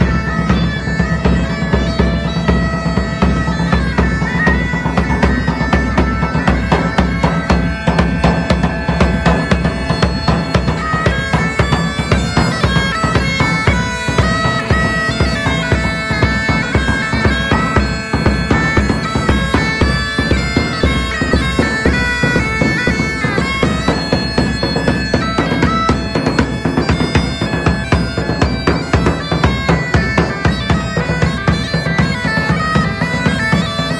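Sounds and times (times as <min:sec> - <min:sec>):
bagpipes playing a melody: 0:00.0 - 0:33.9
drums beating: 0:00.0 - 0:33.9.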